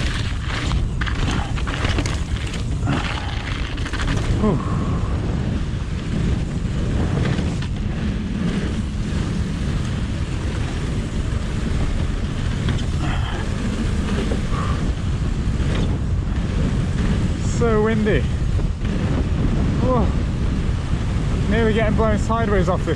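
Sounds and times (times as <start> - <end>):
bike tyres rolling on boardwalk: 0.0 - 22.9
wind buffeting microphone: 0.0 - 22.9.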